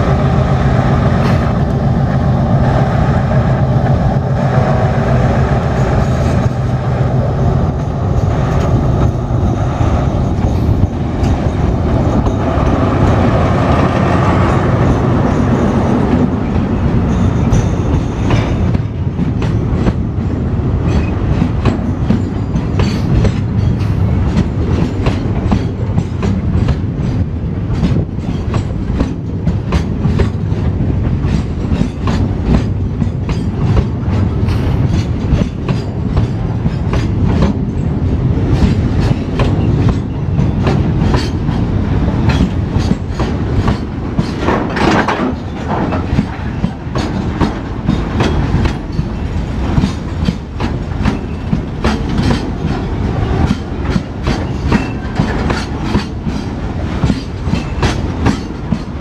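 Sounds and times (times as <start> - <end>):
freight train wheels rumbling: 0.0 - 59.0
wheels clacking over rail joints: 7.7 - 59.0.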